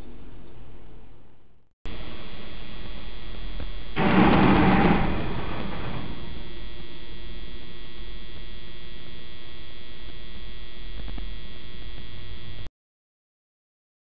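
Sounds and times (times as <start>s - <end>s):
electrical hum and buzz: 0.0s - 12.7s.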